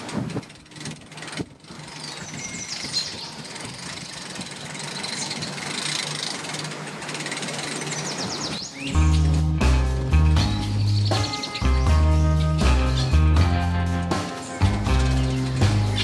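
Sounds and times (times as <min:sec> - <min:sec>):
truck engine running: 0:00.0 - 0:16.0
birds chirping: 0:01.2 - 0:16.0.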